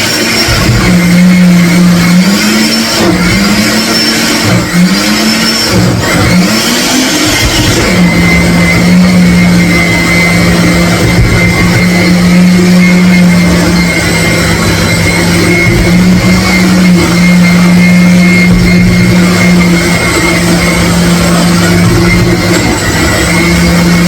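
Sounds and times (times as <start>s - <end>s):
motor humming steadily: 0.0s - 24.0s.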